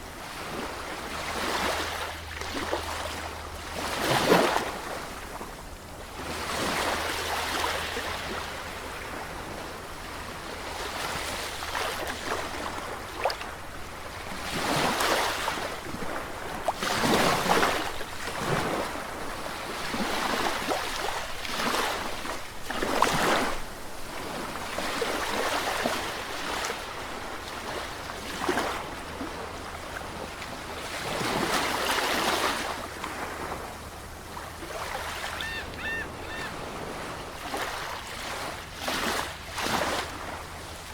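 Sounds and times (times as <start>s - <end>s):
sea waves breaking: 6.2s - 40.9s.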